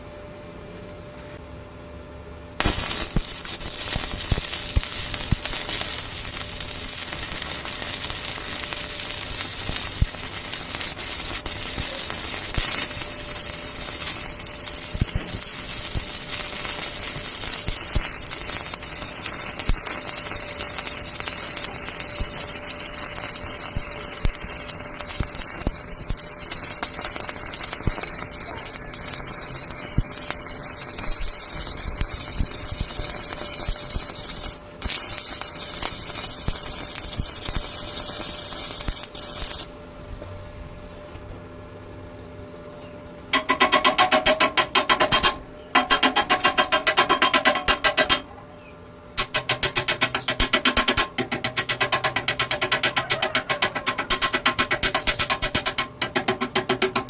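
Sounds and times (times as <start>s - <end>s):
welding arc crackling: 2.6s - 39.8s, 43.3s - 48.2s, 49.2s - 57.0s.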